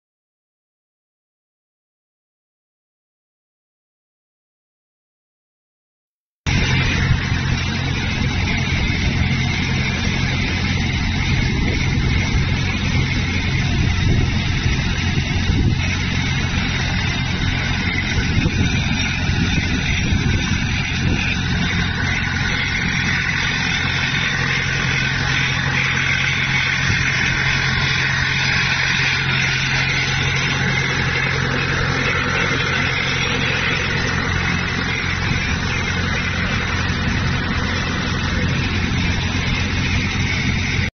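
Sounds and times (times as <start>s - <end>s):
machine hum: 6.5s - 40.9s.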